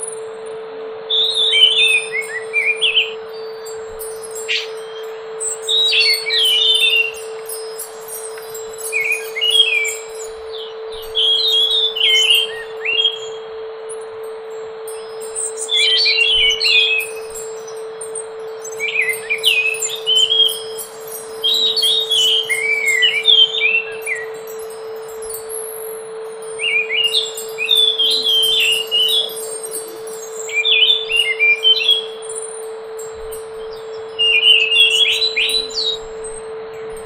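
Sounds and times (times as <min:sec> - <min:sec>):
bird singing whistled notes: 0:00.0 - 0:37.0
steady low hum: 0:00.0 - 0:37.0.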